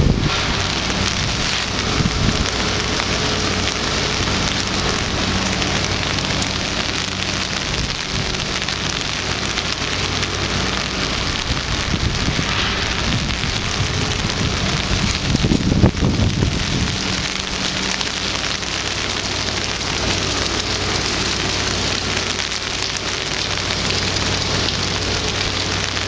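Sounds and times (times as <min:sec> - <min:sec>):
rain falling on pavement: 0:00.0 - 0:26.0.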